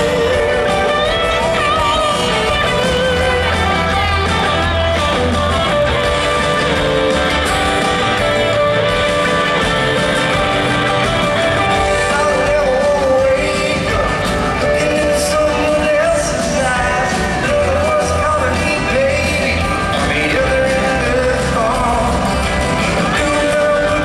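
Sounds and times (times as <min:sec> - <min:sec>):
electric guitar: 0:00.0 - 0:24.0
live country band playing: 0:00.0 - 0:24.0.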